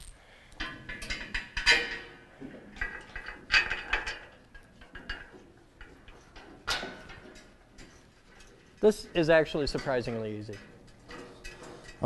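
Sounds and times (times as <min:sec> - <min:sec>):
metal bolts clinking and rattling: 0:00.0 - 0:12.0.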